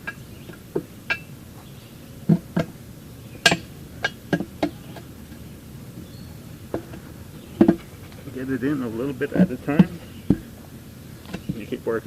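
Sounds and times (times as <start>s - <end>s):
pry bars knocking on wheel rim: 0.0s - 1.4s, 2.2s - 11.7s.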